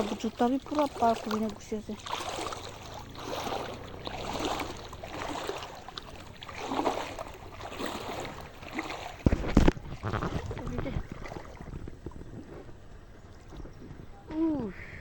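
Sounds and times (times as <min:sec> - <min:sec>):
floodwater splashing and sloshing: 0:00.0 - 0:14.5.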